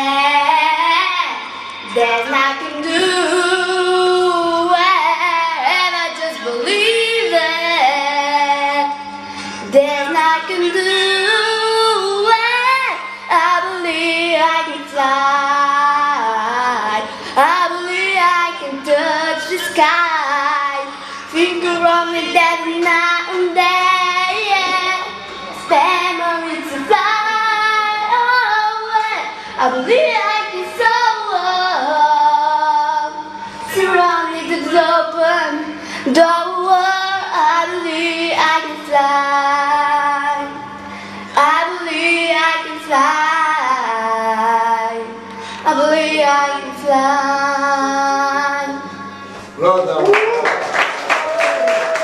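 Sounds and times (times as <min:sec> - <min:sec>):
young female voice singing: 0:00.0 - 0:09.0, 0:09.6 - 0:40.7, 0:41.3 - 0:48.9.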